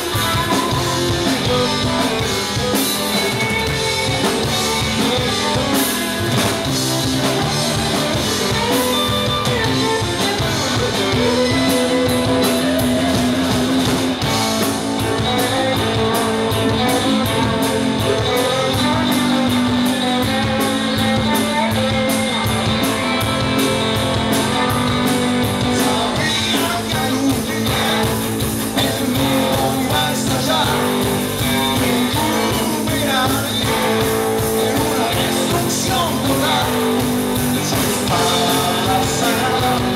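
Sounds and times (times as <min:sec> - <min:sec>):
person singing: 0:00.0 - 0:14.4, 0:15.0 - 0:39.9
bass guitar: 0:00.0 - 0:39.9
drum kit: 0:00.0 - 0:39.9
electric guitars: 0:00.0 - 0:39.9.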